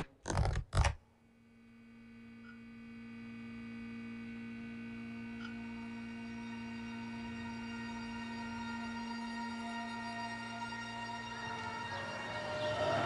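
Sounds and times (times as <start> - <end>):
low drone of held tones: 1.3 - 13.0.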